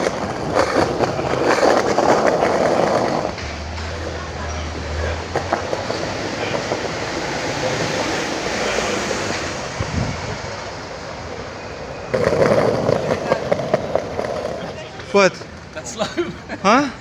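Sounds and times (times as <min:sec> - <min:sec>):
skateboard wheels rolling over paving: 0:00.0 - 0:15.8.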